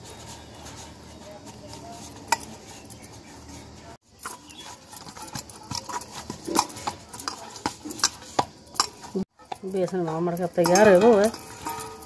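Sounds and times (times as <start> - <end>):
hands kneading dough in bowl: 0.0 - 12.0.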